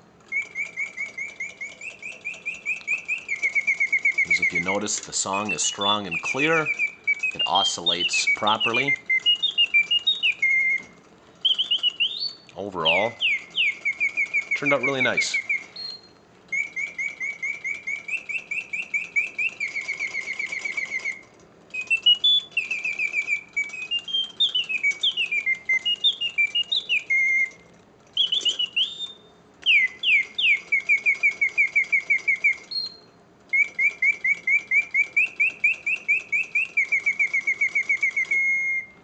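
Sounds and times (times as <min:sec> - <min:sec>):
mechanical bird whistling trills: 0:00.0 - 0:39.0.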